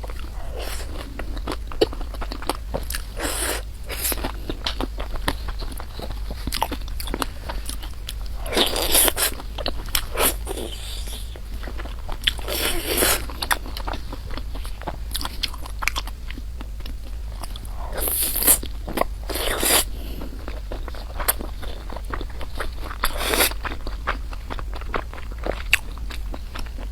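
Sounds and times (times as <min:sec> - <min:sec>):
person chewing crunchy food: 0:00.0 - 0:26.9.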